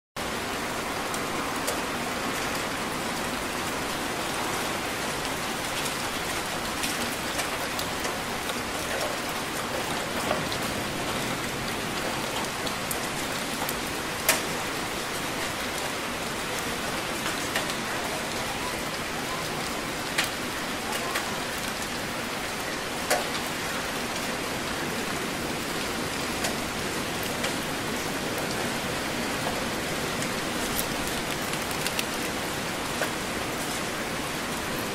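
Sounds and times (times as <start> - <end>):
heavy rain hissing: 0.2 - 34.9.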